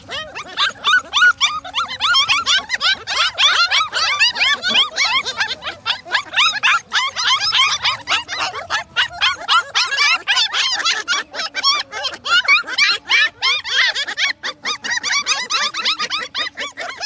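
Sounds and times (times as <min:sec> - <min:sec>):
puppies yipping and whining: 0:00.0 - 0:17.0.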